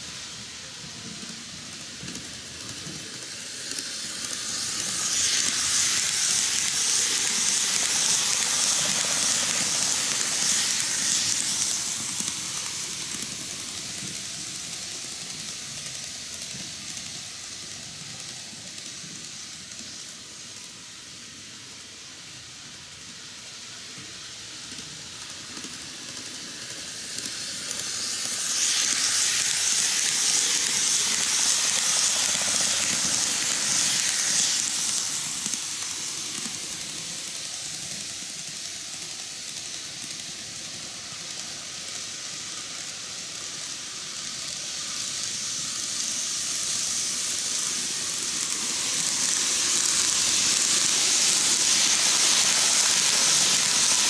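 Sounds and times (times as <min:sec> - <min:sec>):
model trains rattling on rails: 0:00.0 - 0:54.0.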